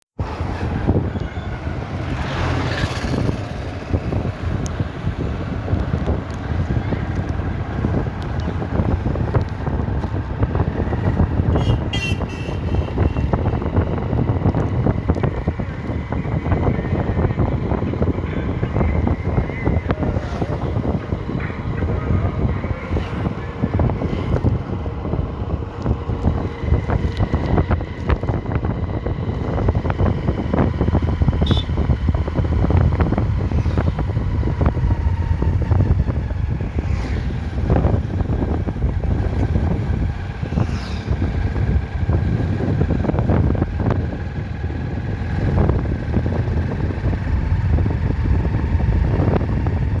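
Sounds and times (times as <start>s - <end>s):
motorcycle engine and tyres: 0.2s - 50.0s
wind buffeting microphone: 0.2s - 50.0s.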